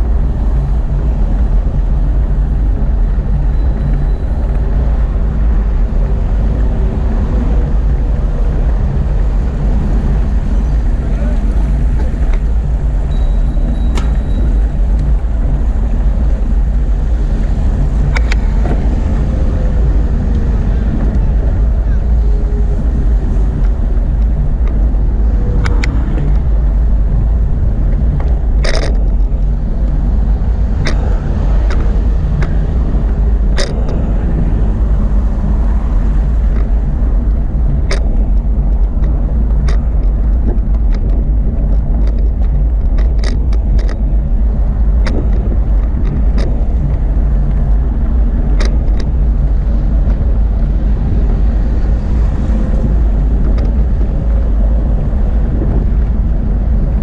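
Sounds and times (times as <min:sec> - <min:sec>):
bicycle ride rumble: 0:00.0 - 0:57.0
bike clicks and rattles: 0:00.0 - 0:57.0
wind buffeting microphone: 0:00.0 - 0:57.0.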